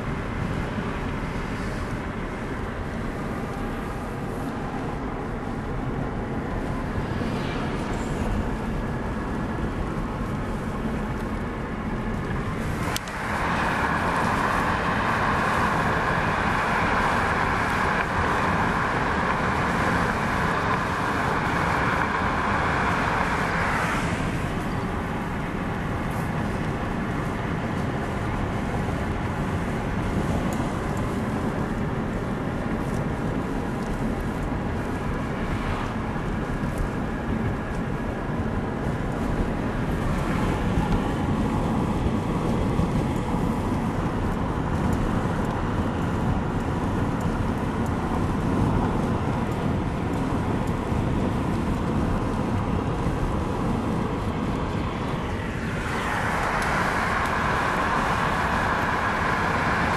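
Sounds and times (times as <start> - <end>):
tyre and road noise: 0.0 - 59.9.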